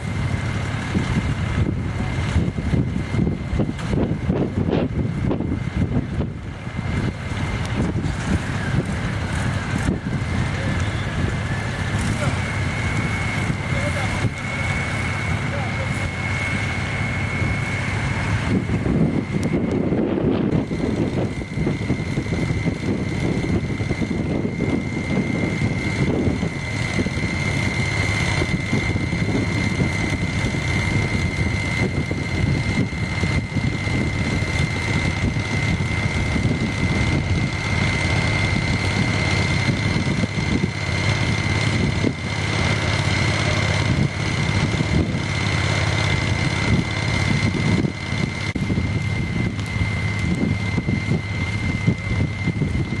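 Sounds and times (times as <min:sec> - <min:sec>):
constant high whine: 0:00.0 - 0:53.0
engine rumble: 0:00.0 - 0:53.0
wind buffeting microphone: 0:00.0 - 0:53.0.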